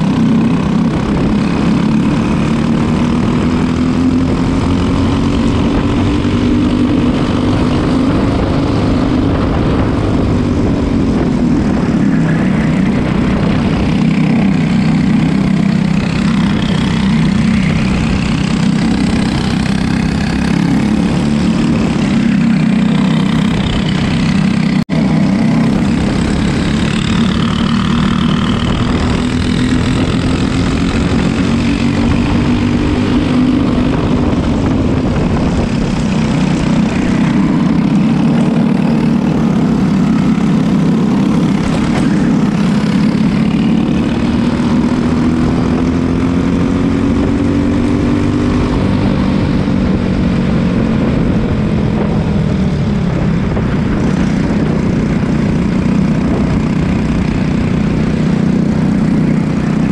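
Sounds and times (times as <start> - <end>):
go-kart engines racing: 0.0 - 59.9.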